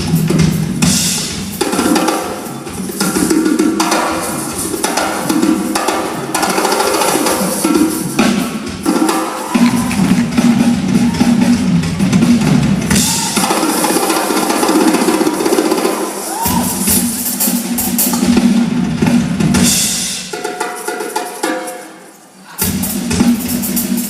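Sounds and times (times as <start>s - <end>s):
drum kit and percussion: 0.0s - 24.0s
live band playing: 0.0s - 24.0s.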